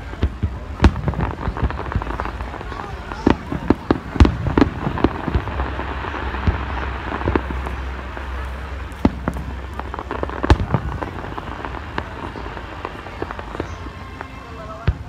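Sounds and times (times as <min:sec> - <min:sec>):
firework bangs: 0:00.0 - 0:15.0
firework crackles: 0:00.0 - 0:15.0.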